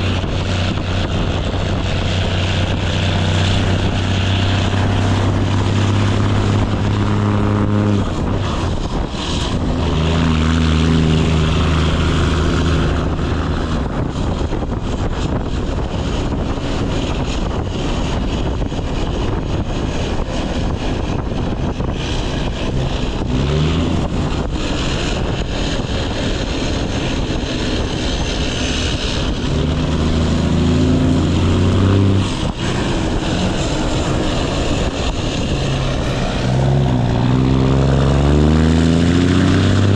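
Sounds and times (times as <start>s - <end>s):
diesel truck engine under load: 0.0s - 39.9s
road and wind noise: 0.0s - 39.9s.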